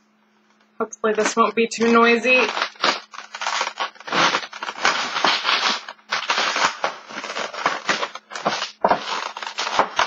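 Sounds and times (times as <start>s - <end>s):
plastic packaging crackling: 1.1s - 10.0s.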